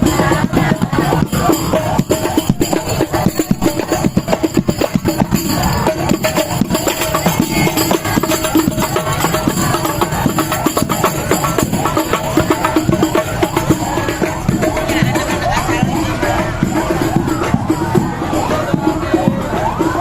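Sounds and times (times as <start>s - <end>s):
fast drum strokes: 0.0s - 20.0s
marching band playing: 0.0s - 20.0s.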